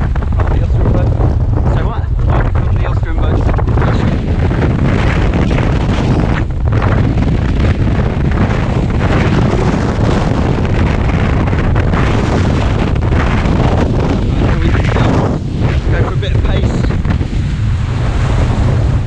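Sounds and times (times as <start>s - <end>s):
water rushing along hulls: 0.0s - 19.0s
wind buffeting microphone: 0.0s - 19.0s.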